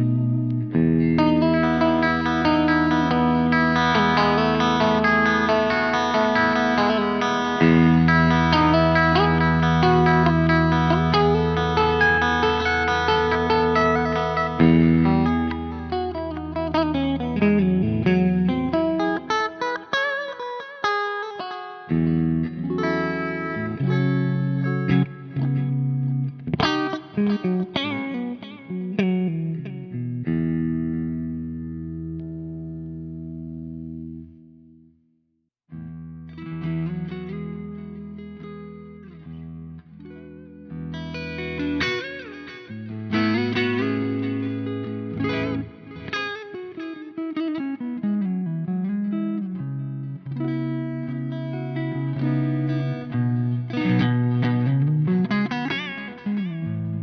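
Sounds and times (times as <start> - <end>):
electric guitar through amplifier: 0.0 - 34.9, 35.7 - 57.0.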